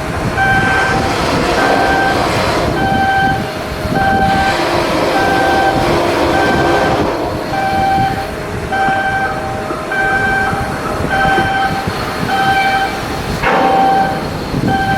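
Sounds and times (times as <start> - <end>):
machinery noise: 0.0 - 14.9
warning beeper beeping: 0.4 - 14.9.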